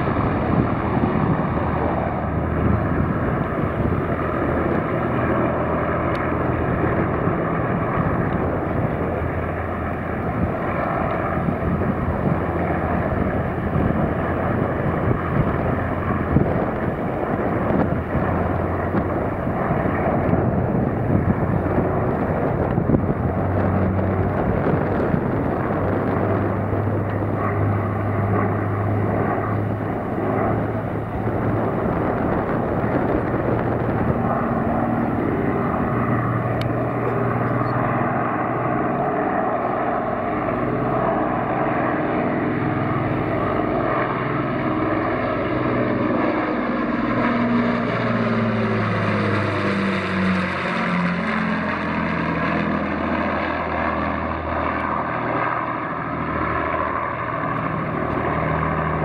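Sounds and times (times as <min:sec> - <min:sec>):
propeller aircraft engines droning: 0:00.0 - 0:59.0.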